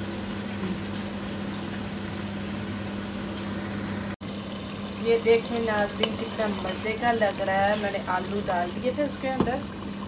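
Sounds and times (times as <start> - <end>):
leaves sizzling in oil: 0.0 - 10.0.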